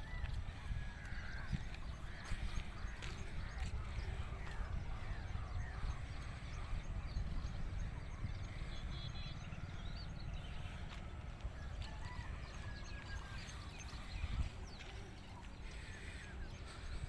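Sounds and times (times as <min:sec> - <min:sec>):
small birds chirping: 0:00.0 - 0:17.0
wind rumbling on microphone: 0:00.0 - 0:17.0.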